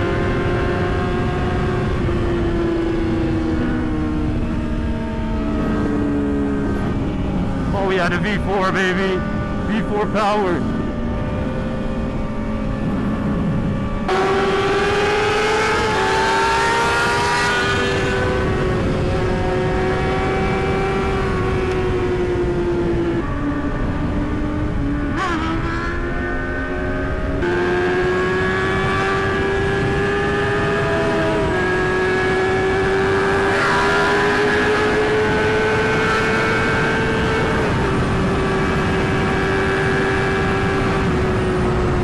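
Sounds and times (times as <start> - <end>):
motorcycle engine while riding: 0.0 - 42.0
wind and road noise: 0.0 - 42.0.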